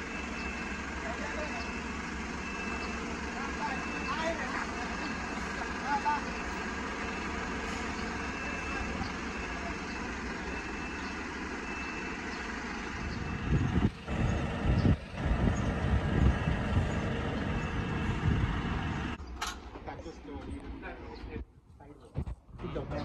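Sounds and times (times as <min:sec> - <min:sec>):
truck diesel engine running: 0:00.0 - 0:19.7.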